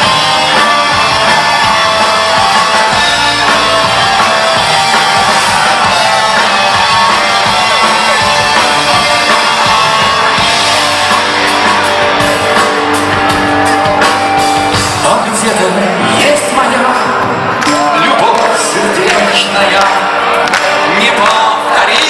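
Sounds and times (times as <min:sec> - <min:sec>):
drum kit: 0:00.0 - 0:20.1
electric guitars: 0:00.0 - 0:22.0.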